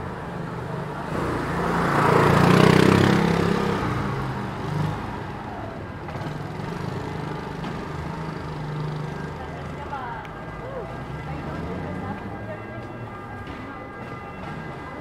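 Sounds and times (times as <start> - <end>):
low hum of street traffic: 0.0 - 15.0.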